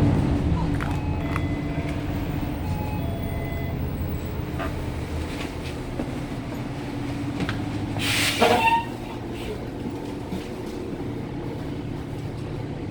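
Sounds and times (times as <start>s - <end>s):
bus engine low drone: 0.0s - 12.9s.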